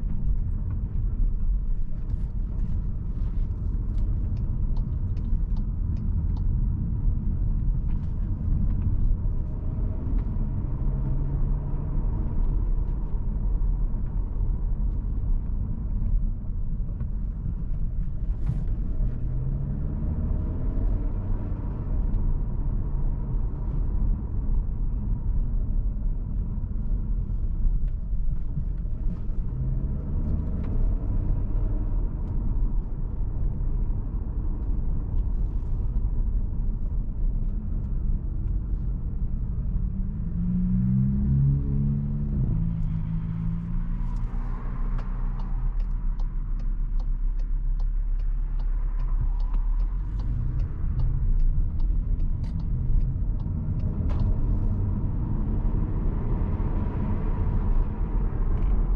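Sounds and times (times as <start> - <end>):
car engine accelerating: 0.0 - 58.9
road rumble: 0.0 - 58.9.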